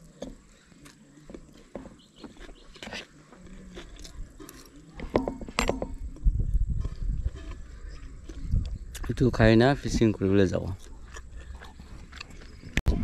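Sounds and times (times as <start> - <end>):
wet chewing and smacking: 0.0 - 5.1, 6.0 - 9.5, 10.6 - 12.8.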